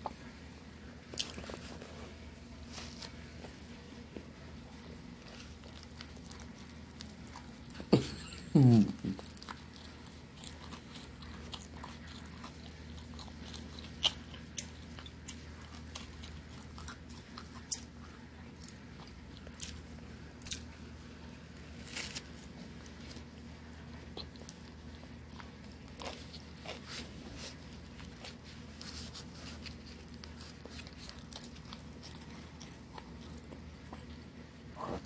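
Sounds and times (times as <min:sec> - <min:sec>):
chewing and biting: 0:01.0 - 0:02.0, 0:02.6 - 0:08.0, 0:08.7 - 0:35.0.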